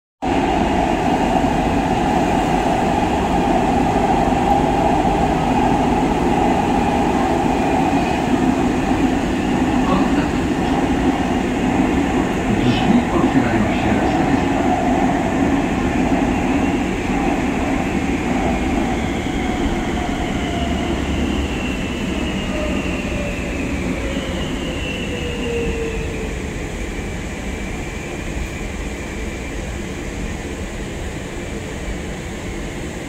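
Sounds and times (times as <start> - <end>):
metro train rumbling: 0.2 - 33.0.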